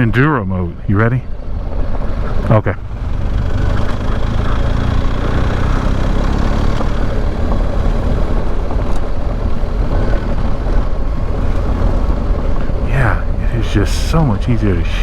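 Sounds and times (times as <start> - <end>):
wind and road noise: 0.0 - 15.0
motorcycle engine running: 1.2 - 15.0.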